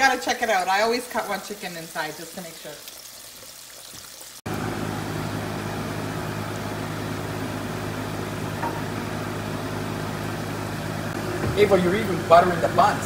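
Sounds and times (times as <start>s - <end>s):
kitchen exhaust fan humming: 0.0s - 3.6s, 4.2s - 13.0s.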